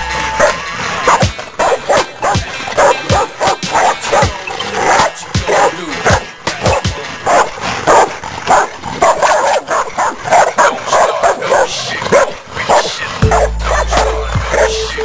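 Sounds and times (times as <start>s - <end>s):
music with deep bass: 0.0s - 9.2s, 10.8s - 15.0s
dogs fighting and barking: 0.2s - 15.0s.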